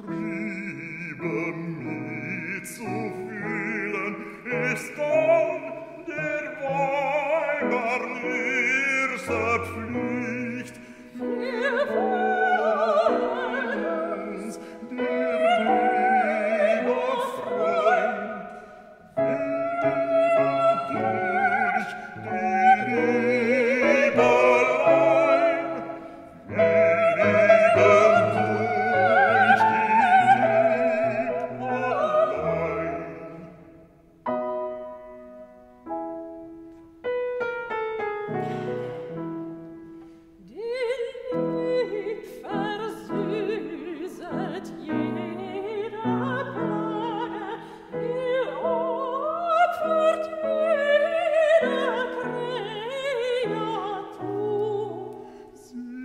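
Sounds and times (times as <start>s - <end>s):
classical singing with vibrato: 0.0s - 56.0s
piano and instrumental ensemble: 0.0s - 56.0s.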